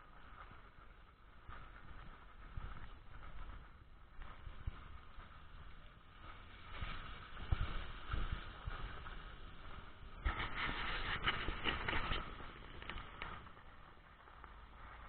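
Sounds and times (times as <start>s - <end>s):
low rumble and thuds from road: 0.0s - 15.0s
vehicle driving on snowy road: 0.0s - 15.0s.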